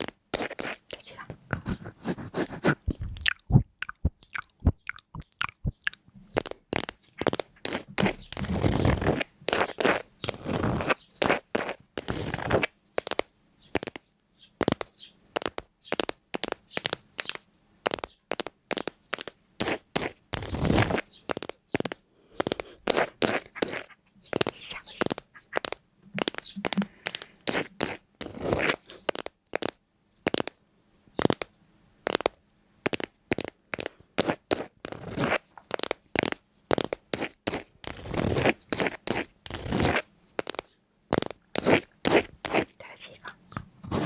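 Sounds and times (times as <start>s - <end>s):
crunching and snapping: 2.8s - 30.6s, 31.2s - 42.7s.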